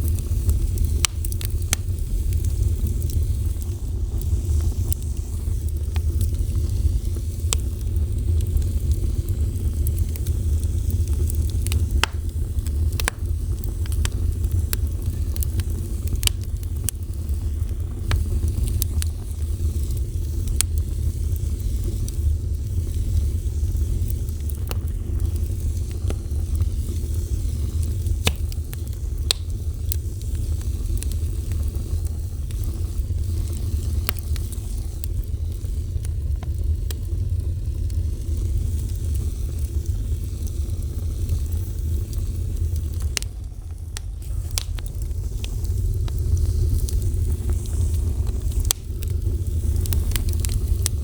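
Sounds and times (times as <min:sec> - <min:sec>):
fire crackling and popping: 0:00.0 - 0:51.0
fire roaring: 0:00.0 - 0:51.0.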